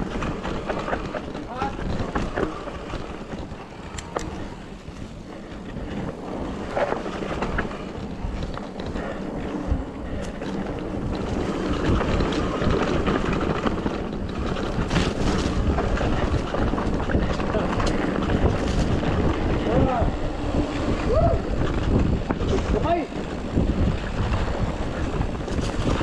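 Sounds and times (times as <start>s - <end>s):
bike clicks and rattles: 0.0s - 26.0s
tyre and trail noise: 0.0s - 26.0s
wind buffeting microphone: 0.0s - 26.0s.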